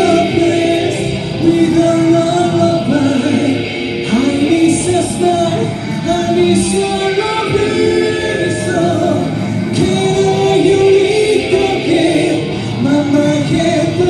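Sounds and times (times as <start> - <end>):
drums: 0.0 - 14.0
electric guitar: 0.0 - 14.0
man singing into a microphone: 0.0 - 14.0.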